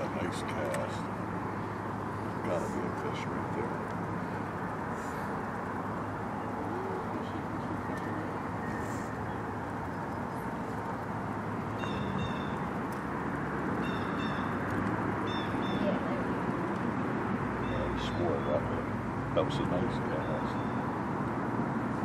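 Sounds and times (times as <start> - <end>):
birds chirping: 0.0 - 21.1.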